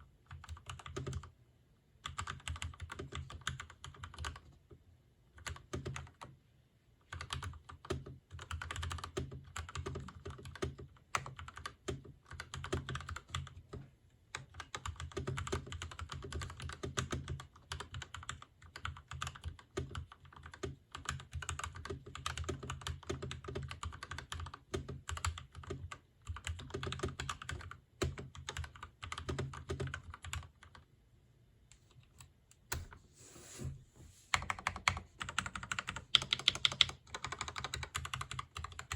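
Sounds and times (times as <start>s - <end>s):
mechanical keyboard typing: 0.3s - 1.3s, 2.0s - 4.6s, 5.3s - 6.3s, 7.1s - 30.8s, 34.3s - 38.9s.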